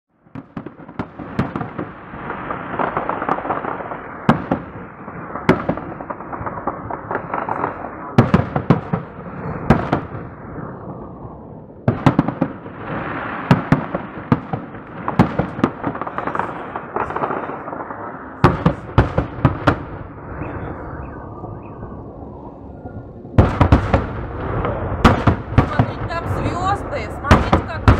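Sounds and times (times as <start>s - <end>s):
fireworks crackling: 0.2s - 22.3s, 23.4s - 27.9s.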